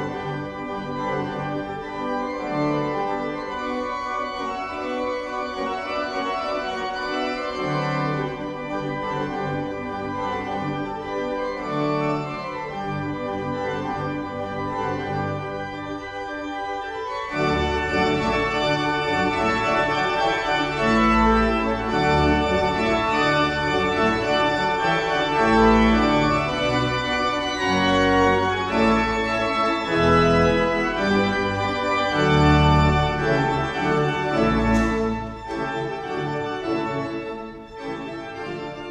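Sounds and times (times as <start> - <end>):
organ playing held chords: 0.0 - 38.9.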